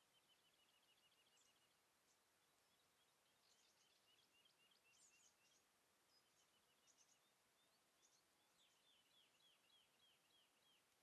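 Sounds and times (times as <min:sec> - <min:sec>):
birds chirping and twittering: 0:00.0 - 0:11.0
faint hiss: 0:00.0 - 0:11.0.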